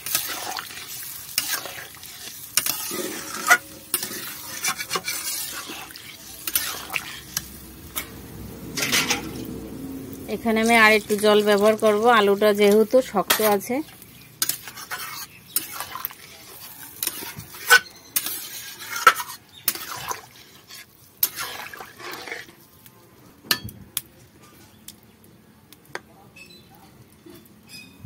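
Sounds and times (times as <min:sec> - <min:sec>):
metal spatula scraping a pan: 0:00.0 - 0:22.6.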